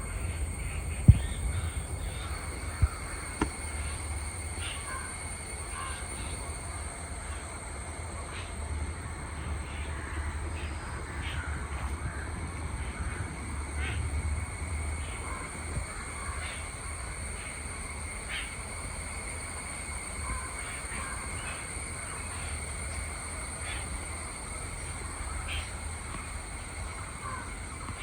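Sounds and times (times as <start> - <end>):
breeze rumble: 0.0 - 28.0.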